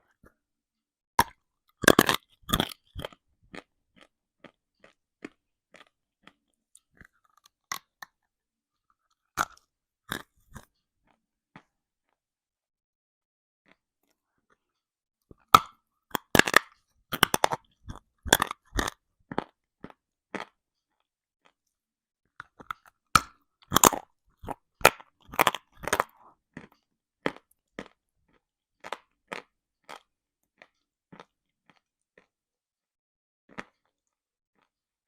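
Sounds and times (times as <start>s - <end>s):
person chewing crunchy earth: 1.2s - 12.2s, 13.7s - 21.7s, 22.4s - 32.4s, 33.5s - 34.8s.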